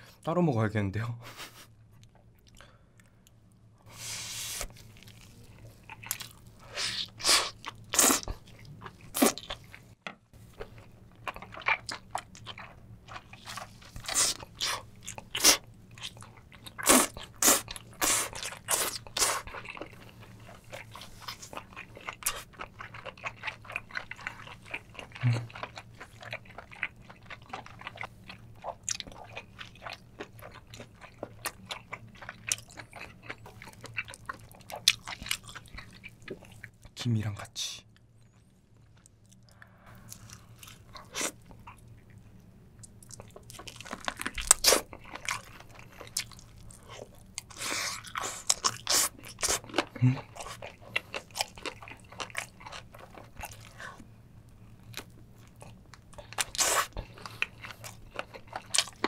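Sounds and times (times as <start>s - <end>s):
faint low hum: 0.0s - 59.0s
chewing and smacking: 4.7s - 36.9s, 37.9s - 59.0s.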